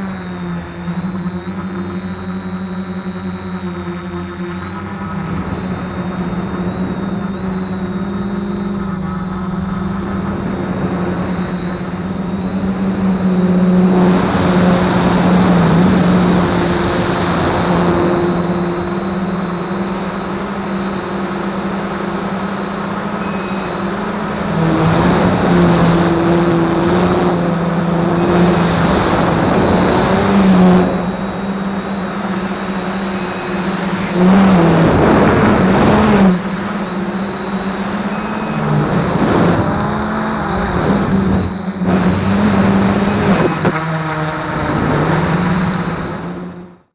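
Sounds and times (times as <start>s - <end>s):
drone motors and propellers humming: 0.0s - 46.9s.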